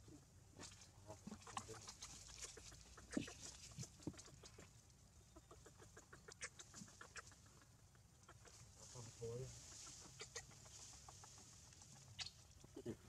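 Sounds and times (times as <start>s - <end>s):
short animal calls and ticks: 1.1s - 12.8s.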